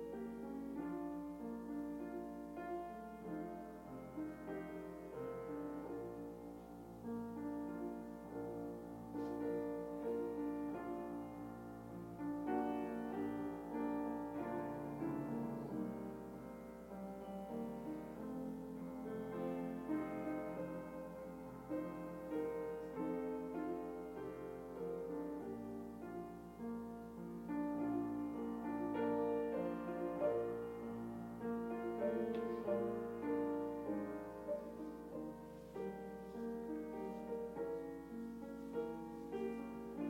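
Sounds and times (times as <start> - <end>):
soft slow piano music: 0.0 - 40.0.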